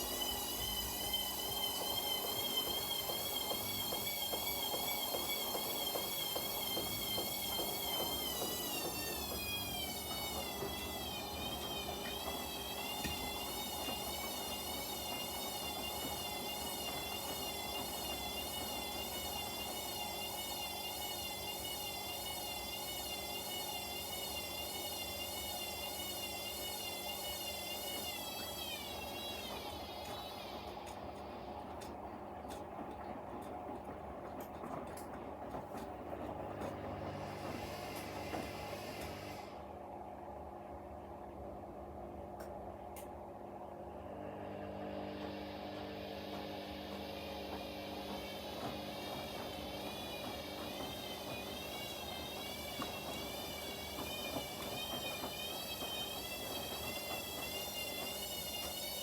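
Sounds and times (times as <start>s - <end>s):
washing machine churning: 0.0s - 59.0s
washing machine motor whine: 0.0s - 59.0s.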